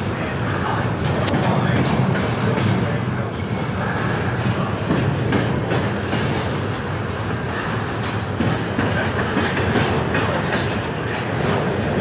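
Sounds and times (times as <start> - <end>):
train running with rumble: 0.0 - 12.0.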